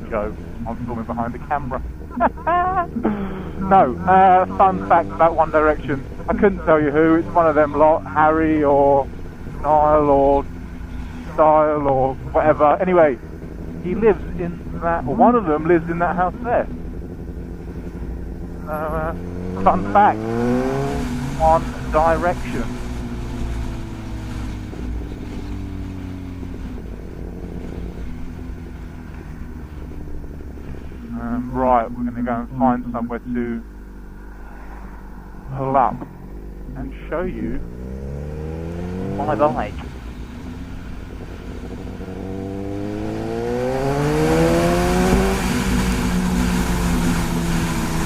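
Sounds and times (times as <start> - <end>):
low wind rumble: 0.0 - 48.0
motorcycle engine running: 0.0 - 48.0.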